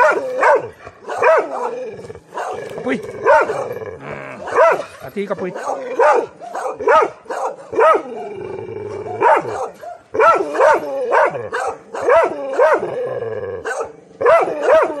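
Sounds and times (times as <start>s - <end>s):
dog barking: 0.0s - 3.8s, 4.4s - 12.9s, 13.6s - 15.0s
dog growling: 0.0s - 6.4s, 8.0s - 9.6s, 10.4s - 15.0s.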